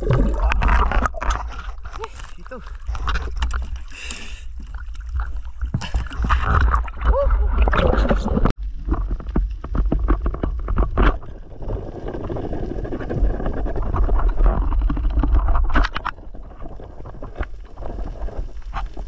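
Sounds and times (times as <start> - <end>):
low rumble of water underwater: 0.0 - 19.0.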